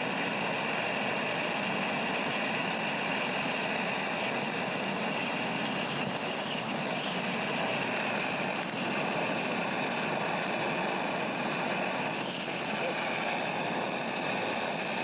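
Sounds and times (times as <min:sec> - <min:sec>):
log fire rushing flames: 0:00.0 - 0:15.0.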